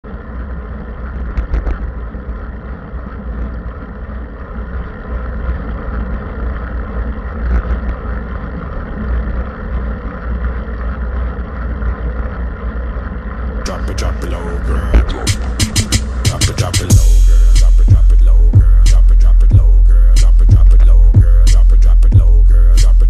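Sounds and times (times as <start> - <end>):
tyres rumbling on asphalt: 0.0 - 23.0.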